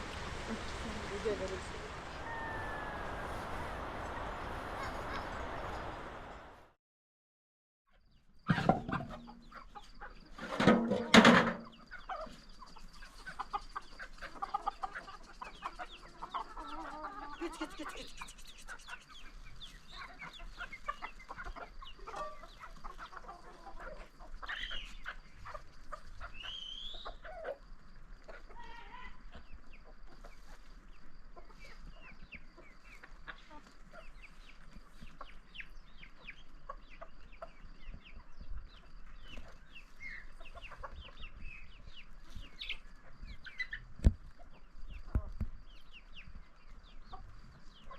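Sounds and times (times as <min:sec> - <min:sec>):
chickens clucking: 0:00.0 - 0:06.5, 0:08.4 - 0:47.9.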